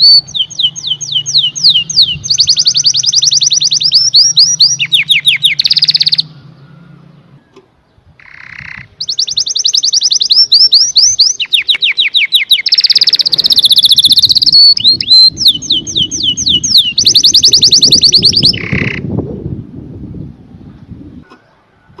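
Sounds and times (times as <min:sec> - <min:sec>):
canary singing trills: 0:00.0 - 0:19.2.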